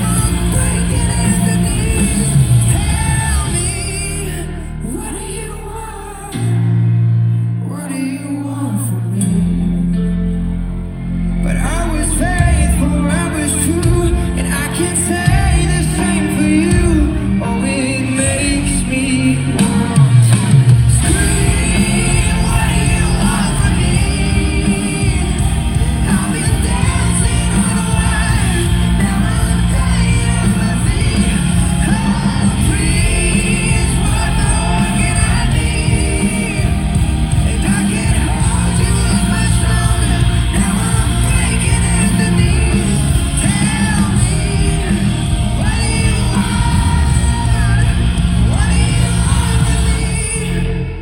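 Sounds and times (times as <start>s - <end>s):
crowd yelling: 0.0s - 6.6s, 11.4s - 51.0s
live rock band playing: 0.0s - 51.0s
person singing: 0.0s - 51.0s.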